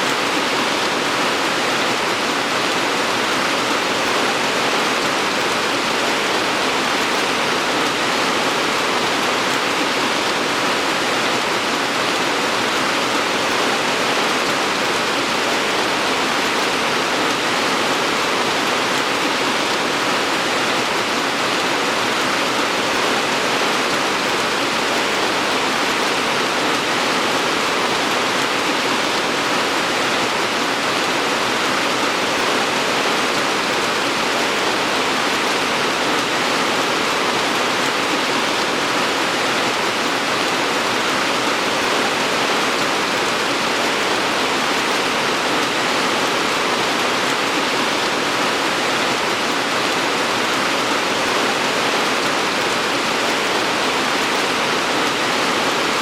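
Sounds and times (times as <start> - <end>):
heavy rainfall hiss: 0.0 - 56.0.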